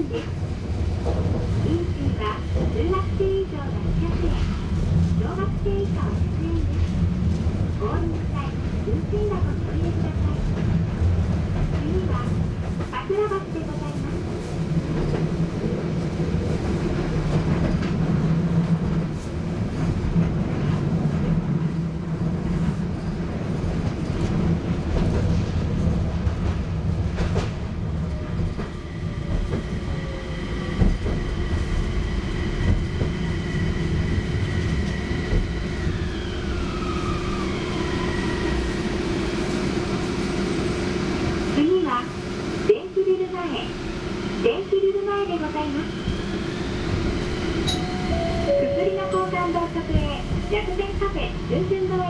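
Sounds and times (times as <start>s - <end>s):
tram wheels rumbling on rail: 0.0s - 52.0s.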